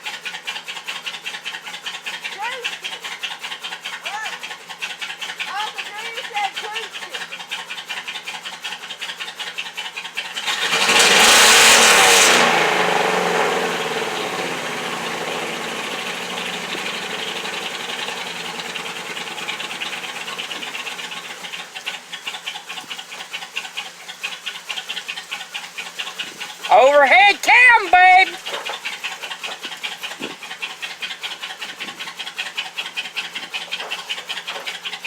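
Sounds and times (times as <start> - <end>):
truck engine idling and revving: 0.0 - 27.1, 28.3 - 35.0.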